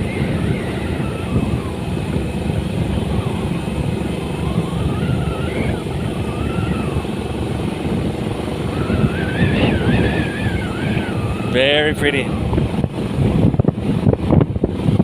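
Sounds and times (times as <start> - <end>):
road noise: 0.0 - 15.0
vehicle rumbling on the move: 0.0 - 15.0
wind noise: 0.0 - 15.0.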